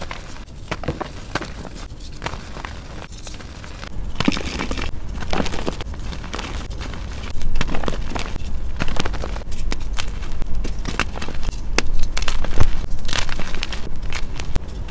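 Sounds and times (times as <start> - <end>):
chalk crunching by hand: 0.0 - 14.9.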